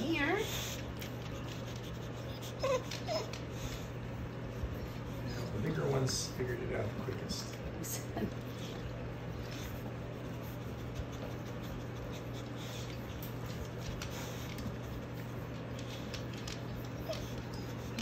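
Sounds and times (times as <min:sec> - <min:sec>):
steady low hum: 0:00.0 - 0:18.0
puppies smacking and licking: 0:00.7 - 0:18.0.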